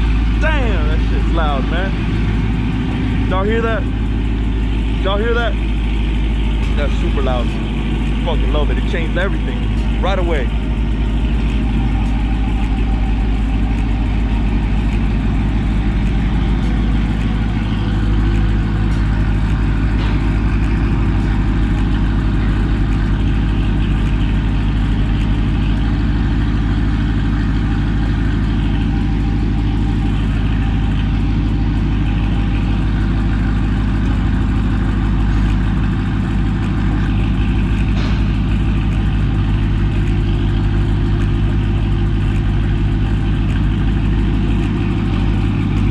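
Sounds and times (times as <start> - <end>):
car engine idling loud: 0.0 - 45.9.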